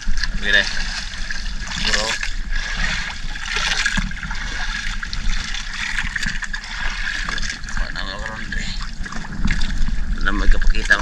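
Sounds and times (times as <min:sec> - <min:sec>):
water splashing around boat hull: 0:00.0 - 0:11.0.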